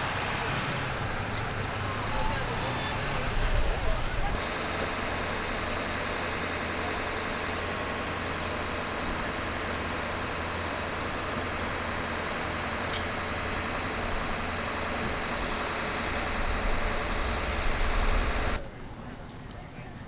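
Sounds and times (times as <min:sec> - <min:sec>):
street noise: 0:00.0 - 0:20.0
vehicle engine idling: 0:00.0 - 0:20.0.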